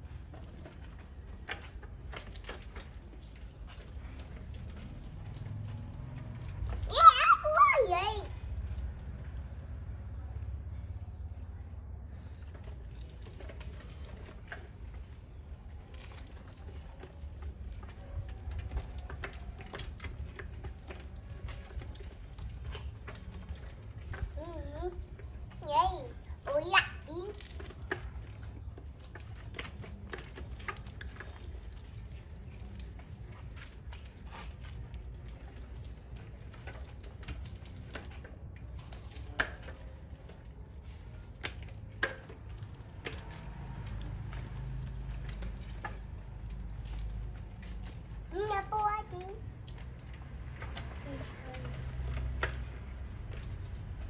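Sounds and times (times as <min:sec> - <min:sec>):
bicycle rattling on concrete: 0:00.0 - 0:54.0.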